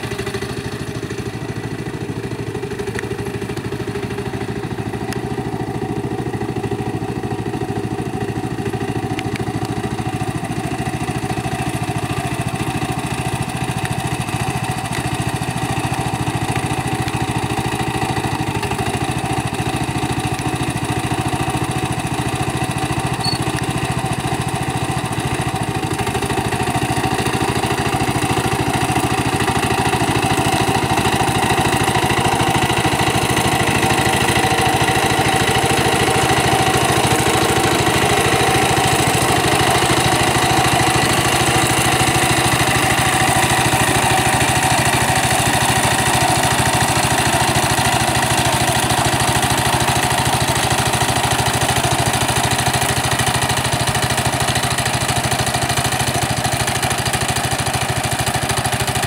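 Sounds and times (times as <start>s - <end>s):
small tractor engine running: 0.0s - 59.0s.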